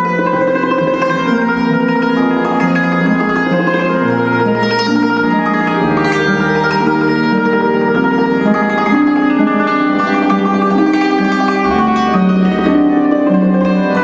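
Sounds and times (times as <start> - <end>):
harp music: 0.0 - 14.0.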